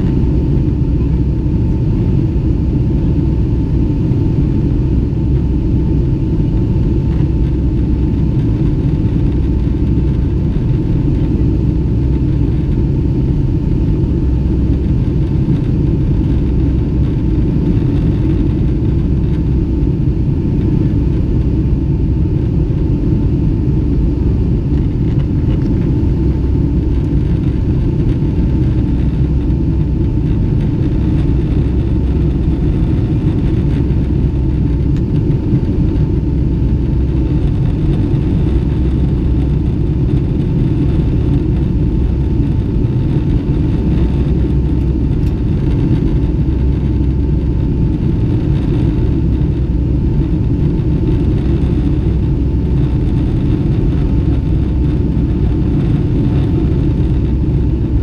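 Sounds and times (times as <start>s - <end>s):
jet engine rumble in cabin: 0.0s - 58.0s
thin steady engine whine: 0.0s - 58.0s.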